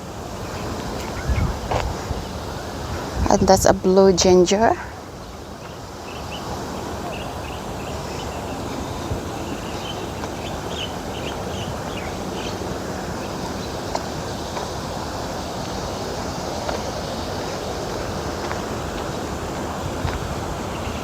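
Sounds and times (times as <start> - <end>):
birds chirping: 0.0 - 21.0
steady noisy background: 0.0 - 21.0.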